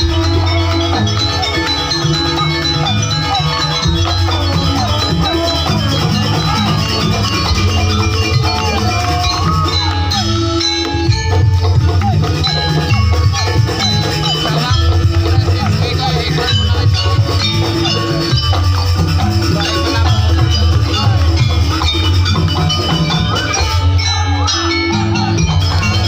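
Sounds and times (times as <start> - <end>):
low drum and gong beat: 0.0 - 26.0
pitch-bending melody line: 0.0 - 26.0
struck metal percussion: 0.0 - 26.0.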